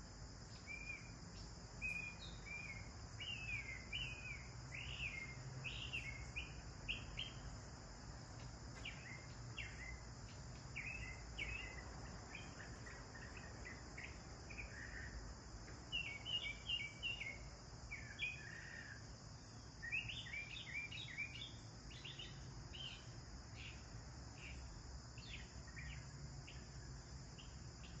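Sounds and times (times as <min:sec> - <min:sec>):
sparrows chirping: 0:00.6 - 0:07.6, 0:08.4 - 0:15.2, 0:15.8 - 0:28.0.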